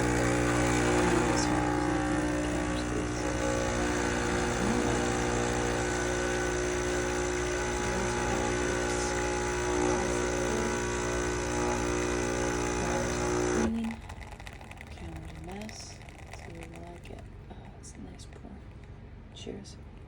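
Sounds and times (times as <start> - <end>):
espresso machine pump humming: 0.0 - 19.0.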